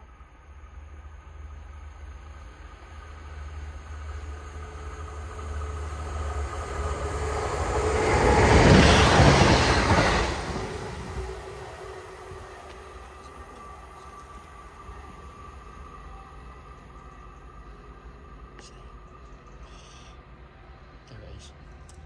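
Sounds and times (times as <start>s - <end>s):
diesel train passing: 0.0s - 22.0s.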